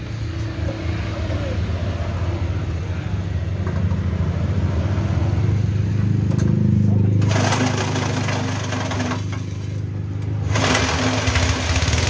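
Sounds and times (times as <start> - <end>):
petrol engine driving grinding mill: 0.0 - 12.0.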